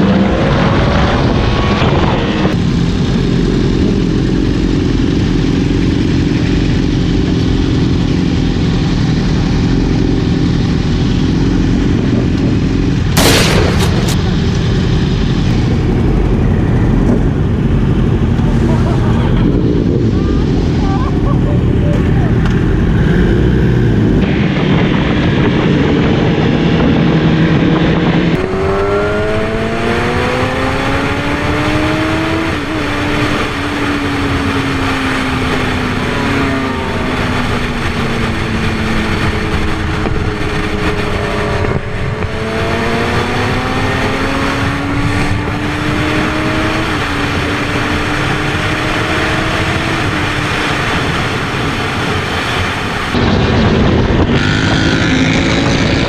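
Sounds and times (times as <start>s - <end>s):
sport motorcycle engine: 0.0s - 56.0s
wind rushing past: 9.7s - 56.0s.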